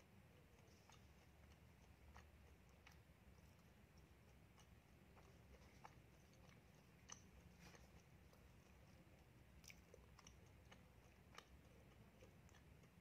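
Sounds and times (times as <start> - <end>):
low steady hum: 0.0 - 13.0
chewing with wet mouth clicks: 0.2 - 13.0.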